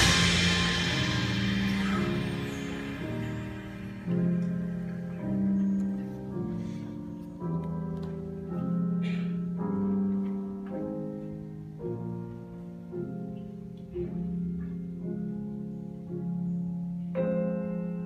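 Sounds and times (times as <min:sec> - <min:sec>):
band and orchestra music: 0:00.0 - 0:18.0
piano chords: 0:00.0 - 0:18.0.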